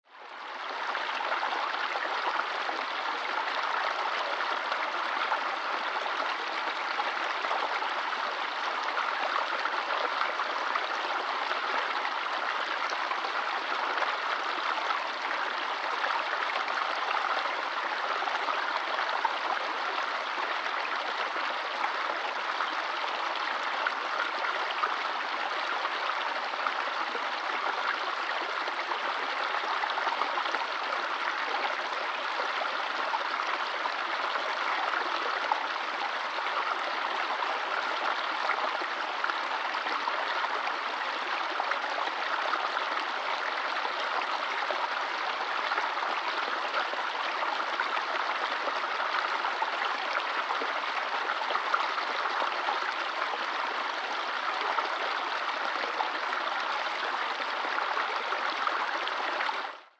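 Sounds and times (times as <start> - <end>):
stream running over stones: 0.4 - 59.8.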